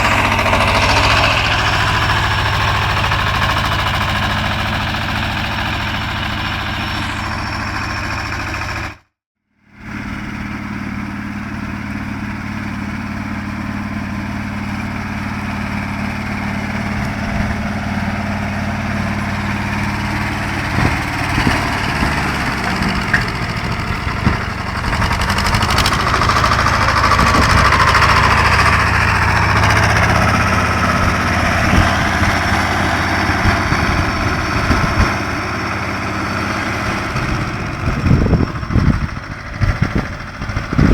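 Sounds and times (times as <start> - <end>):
tractor engine running: 0.0 - 9.1, 9.8 - 40.9.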